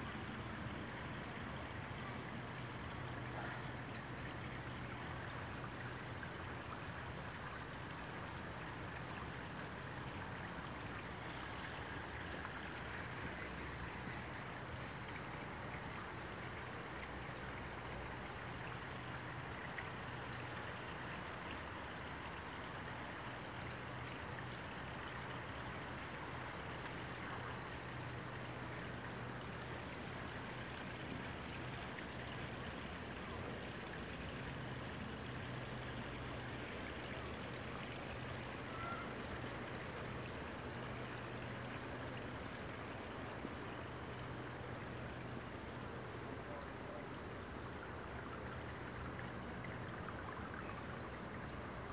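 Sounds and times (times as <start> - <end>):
running water: 0.0 - 51.9.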